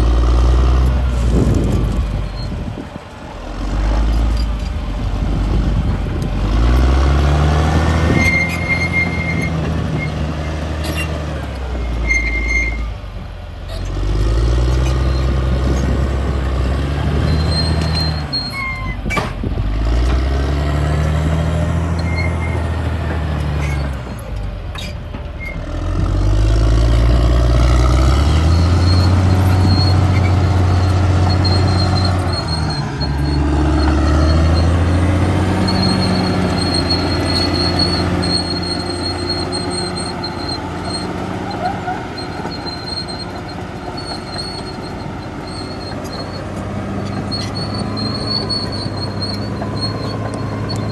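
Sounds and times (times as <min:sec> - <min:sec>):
bulldozer diesel engine under load: 0:00.0 - 0:50.9.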